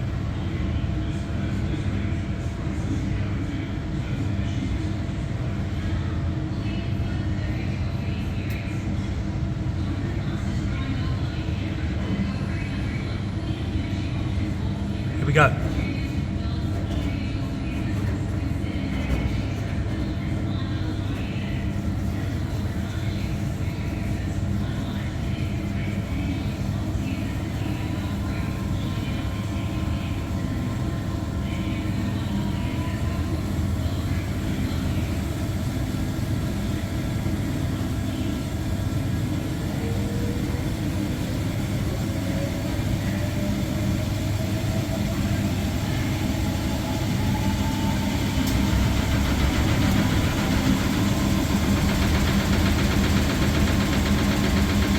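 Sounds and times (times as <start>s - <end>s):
washing machine spinning: 0.0s - 54.9s.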